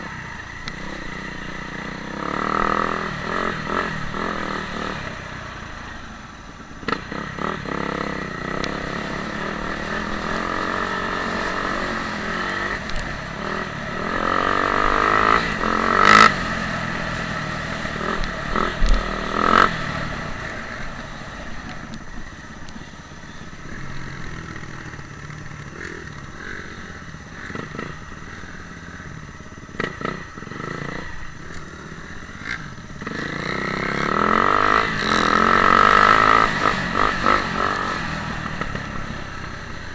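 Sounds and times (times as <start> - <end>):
dirt bike engine revving: 0.0 - 5.8, 6.8 - 22.4, 23.3 - 39.9.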